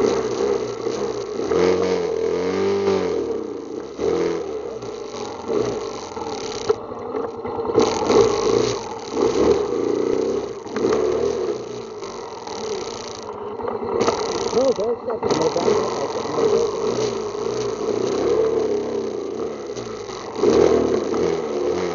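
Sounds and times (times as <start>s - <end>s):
atv engine revving: 0.0s - 21.9s.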